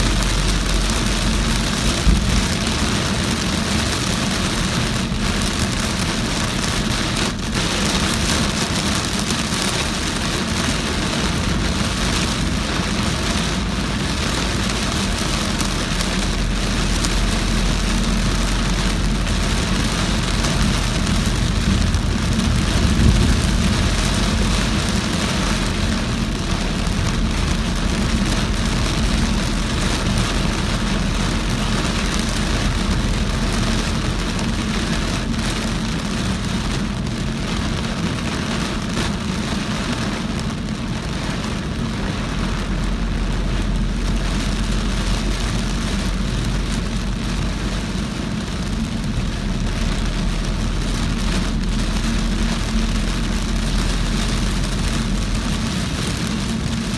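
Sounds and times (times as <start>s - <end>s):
car low rumble: 0.0s - 56.9s
heavy rain on a car: 0.0s - 56.9s
tyre noise on wet road: 0.0s - 56.9s.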